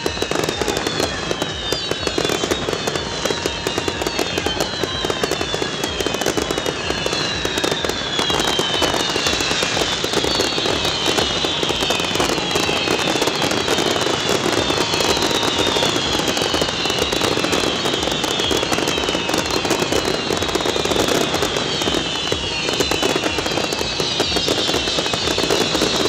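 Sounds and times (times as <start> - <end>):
falling high whistling tones: 0.0 - 26.0
fireworks crackling and banging: 0.0 - 26.0.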